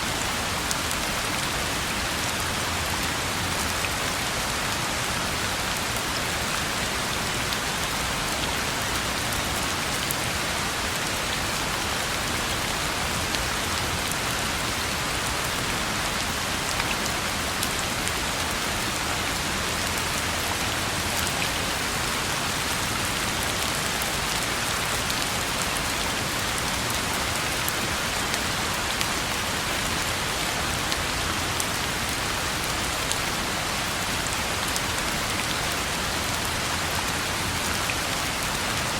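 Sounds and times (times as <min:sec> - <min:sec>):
rain falling on a road: 0:00.0 - 0:38.9.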